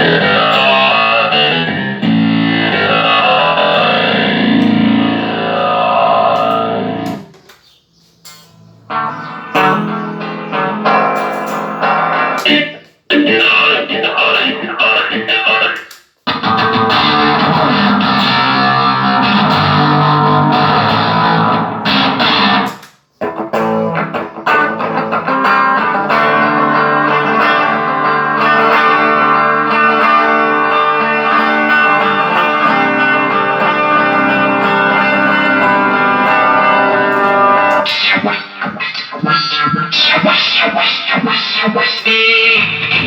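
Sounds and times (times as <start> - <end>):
electric guitar with effects: 0.0 - 43.0.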